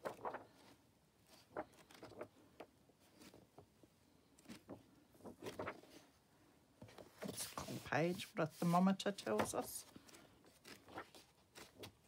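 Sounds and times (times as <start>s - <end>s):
book pages turning: 0.0s - 3.8s, 4.4s - 6.0s, 6.8s - 12.0s.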